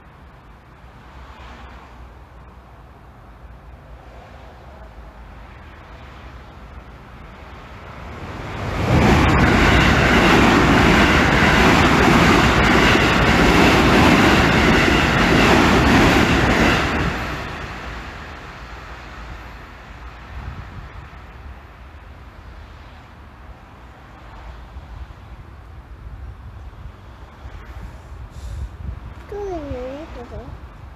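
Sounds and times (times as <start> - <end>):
electric train passing: 0.0 - 30.9.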